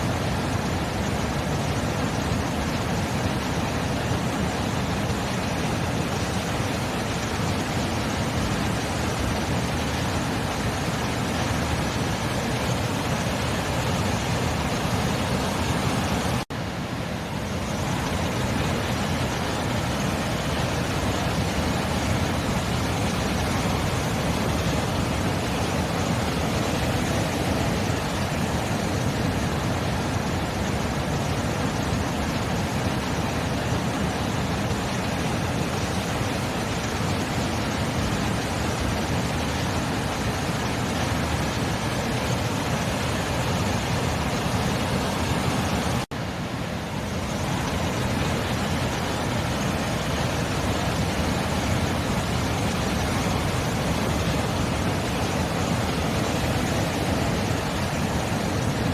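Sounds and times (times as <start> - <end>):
sea waves washing: 0.0 - 58.9.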